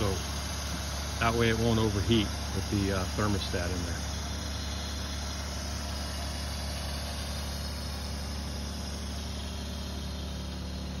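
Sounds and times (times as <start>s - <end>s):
electric water pump humming: 0.0s - 11.0s.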